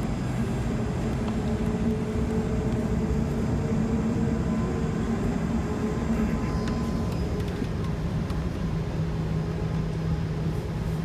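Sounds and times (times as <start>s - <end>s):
aircraft engines rumbling: 0.0s - 11.0s.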